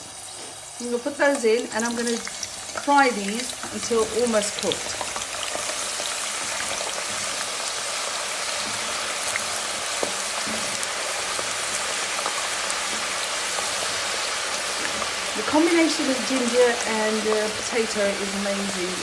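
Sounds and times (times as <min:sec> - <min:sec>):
chips deep-frying in hot oil: 0:00.0 - 0:19.0.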